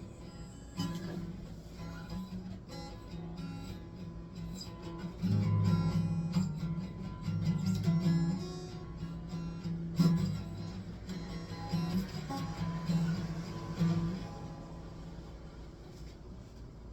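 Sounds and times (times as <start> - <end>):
strummed and picked guitar: 0.0 - 16.5.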